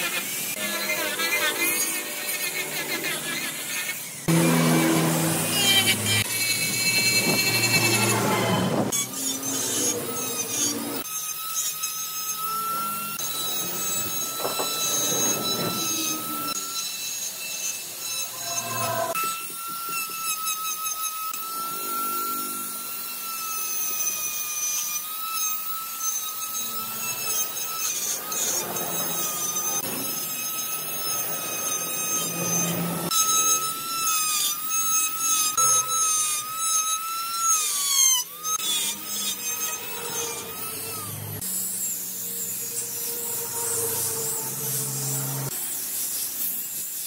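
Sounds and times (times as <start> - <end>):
die grinder whining: 0.0 - 47.0
rasp of wood being cut: 0.0 - 47.0.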